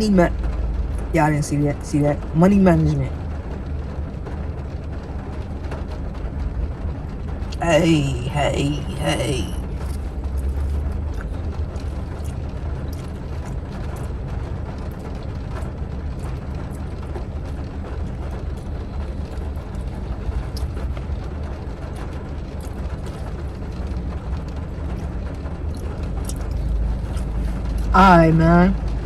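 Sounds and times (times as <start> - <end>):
vehicle engine rumble: 3.0 - 29.0.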